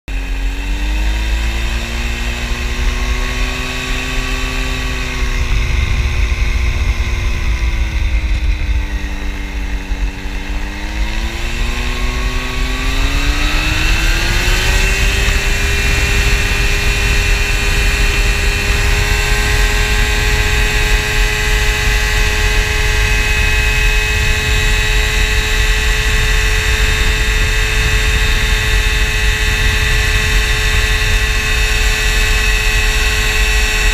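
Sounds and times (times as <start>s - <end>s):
light aircraft engine and propeller: 0.1s - 33.9s.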